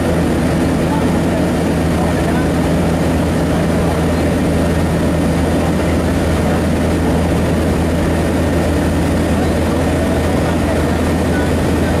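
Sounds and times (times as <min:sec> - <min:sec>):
propeller engines droning: 0:00.0 - 0:12.0.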